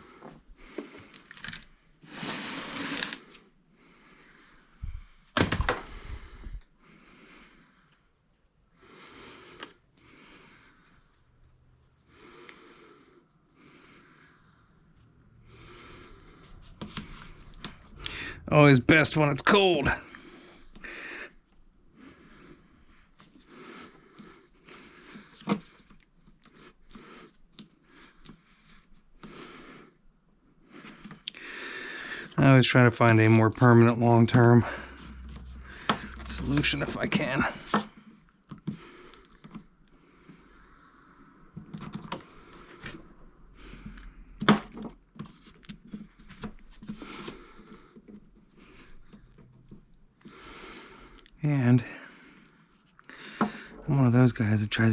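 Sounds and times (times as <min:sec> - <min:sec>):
rustling and scraping of hands: 0:00.0 - 0:03.6, 0:07.3 - 0:54.9.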